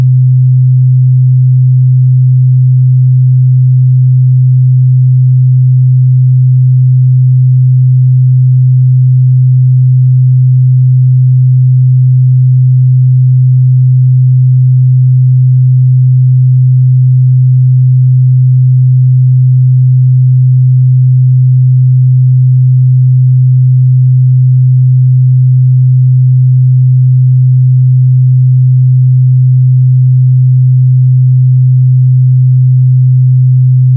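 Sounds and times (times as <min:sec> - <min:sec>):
sine wave test tone: 0:00.0 - 0:33.9.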